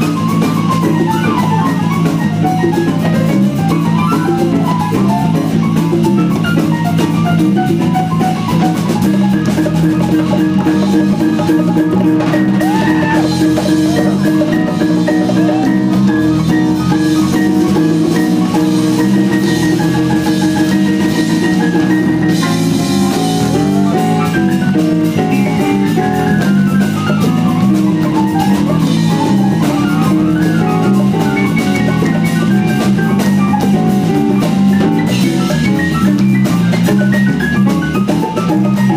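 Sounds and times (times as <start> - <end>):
drum kit and percussion groove: 0.0 - 38.9
jazz band playing: 0.0 - 38.9.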